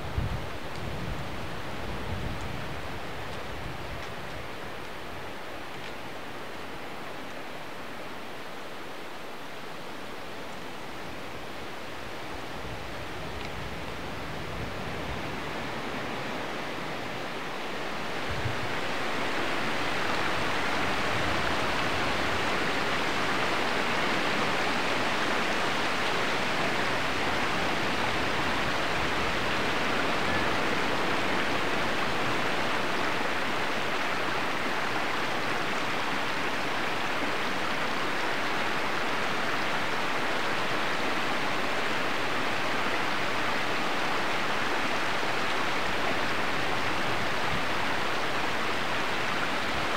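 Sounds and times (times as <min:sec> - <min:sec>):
stream water rushing and gurgling: 0:00.0 - 0:49.9.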